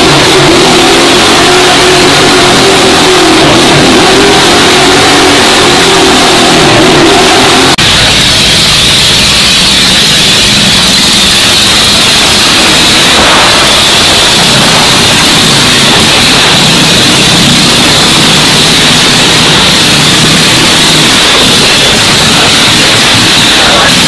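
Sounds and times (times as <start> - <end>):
motorcycle engine running hard: 0.0 - 24.0.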